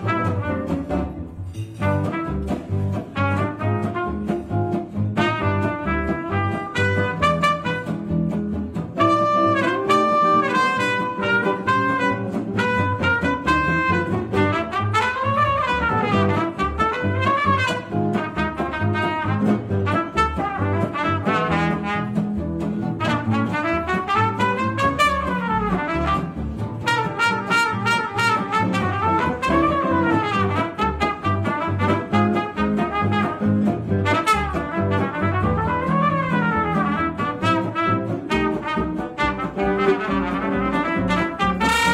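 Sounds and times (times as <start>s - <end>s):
trumpet solo: 0.0s - 1.1s, 1.8s - 41.9s
double bass: 0.0s - 41.9s
strummed acoustic guitars: 0.0s - 41.9s.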